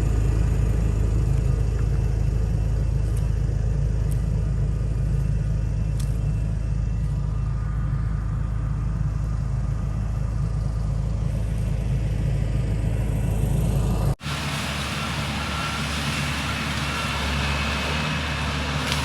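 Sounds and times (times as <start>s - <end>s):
engine rumbling: 0.0s - 19.0s
engine with hiss and whine: 0.0s - 19.0s.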